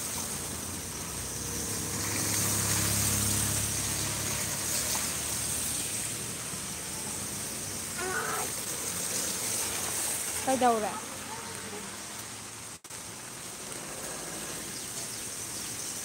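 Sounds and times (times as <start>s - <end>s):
steady hiss of wet road: 0.0s - 16.0s.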